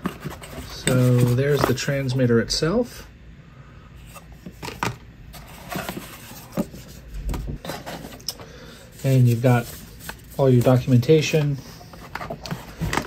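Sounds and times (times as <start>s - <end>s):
cardboard packaging rustling: 0.0s - 1.9s, 4.1s - 13.0s.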